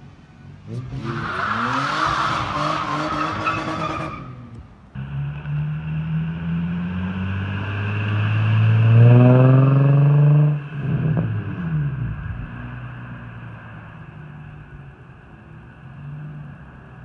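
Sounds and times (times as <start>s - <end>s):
car engine accelerating: 0.6s - 14.4s.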